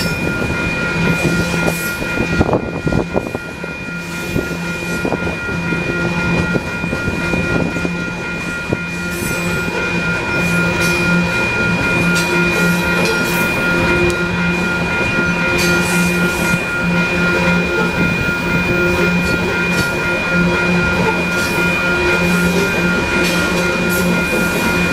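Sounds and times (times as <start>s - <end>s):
high ringing tone: 0.0s - 24.9s
train cars rumbling and rattling: 0.0s - 24.9s.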